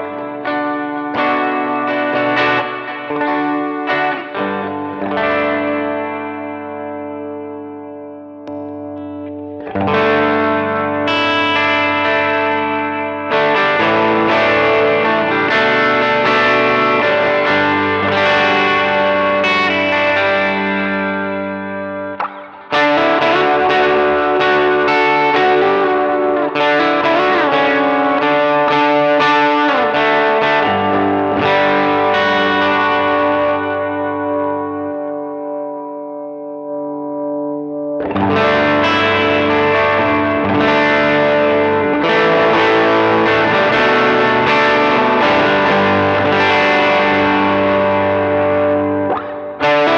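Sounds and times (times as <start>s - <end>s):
overdriven electric guitar chords: 0.0s - 49.9s.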